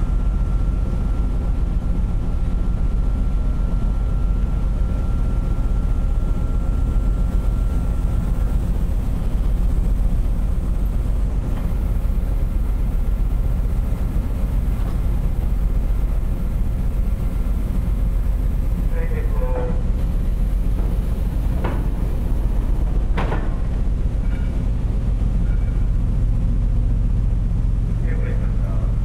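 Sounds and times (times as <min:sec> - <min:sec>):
ship diesel engines rumbling: 0:00.0 - 0:29.0.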